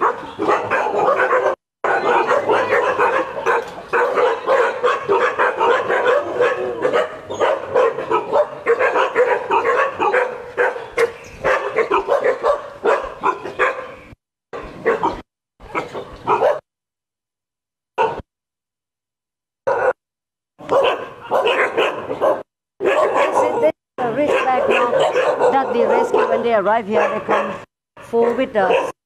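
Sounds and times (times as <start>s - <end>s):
many dogs barking and yipping: 0.0s - 16.6s, 18.0s - 18.2s, 19.7s - 20.0s, 20.6s - 29.0s.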